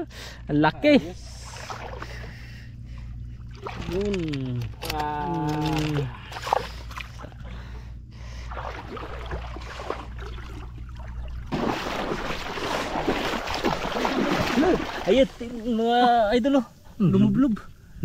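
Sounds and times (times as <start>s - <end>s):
water sloshing around wading legs: 1.2s - 15.8s.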